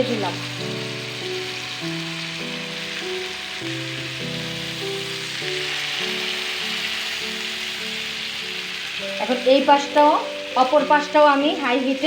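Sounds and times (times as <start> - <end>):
chicken sizzling in a frying pan: 0.0 - 12.0
soft piano music: 0.0 - 12.0.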